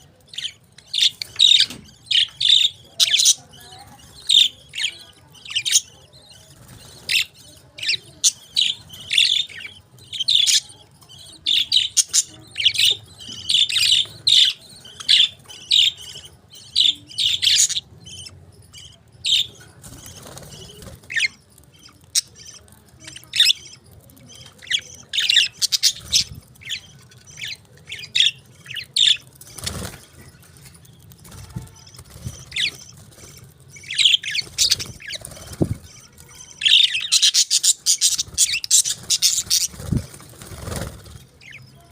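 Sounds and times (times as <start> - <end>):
parakeets chirping: 0.0 - 41.9.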